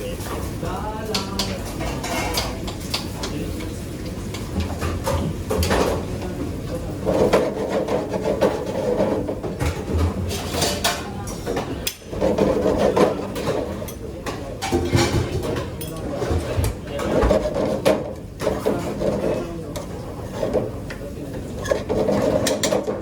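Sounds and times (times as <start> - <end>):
kitchen utensils and dishes clattering: 0.0 - 23.0.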